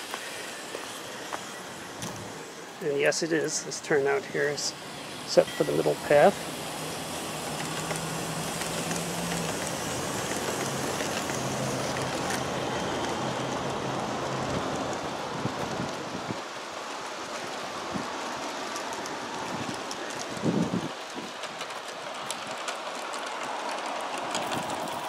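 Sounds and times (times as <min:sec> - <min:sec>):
model train wheels on rails: 0:00.0 - 0:25.0.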